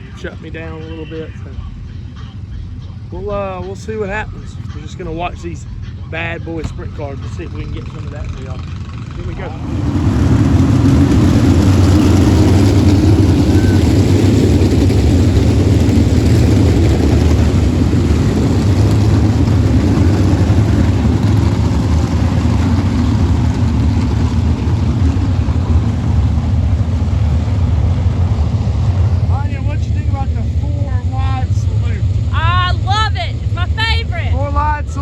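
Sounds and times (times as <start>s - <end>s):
sprint car engines roaring: 0.0s - 35.0s.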